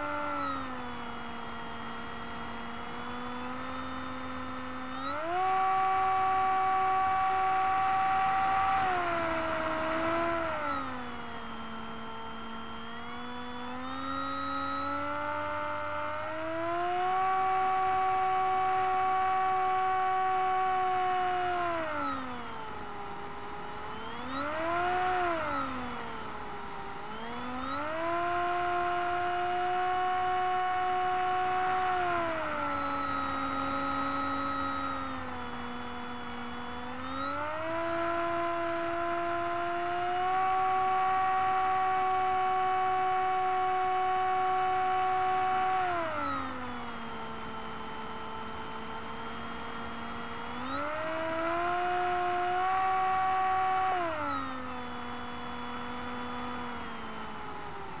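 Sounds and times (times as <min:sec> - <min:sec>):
model plane motor whining: 0:00.0 - 0:58.0.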